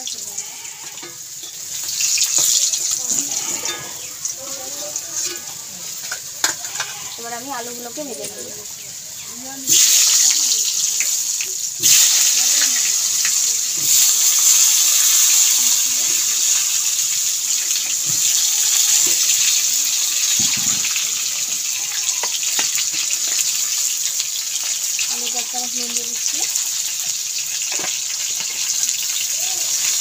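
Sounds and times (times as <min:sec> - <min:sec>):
potatoes frying in hot oil: 0:00.0 - 0:30.0.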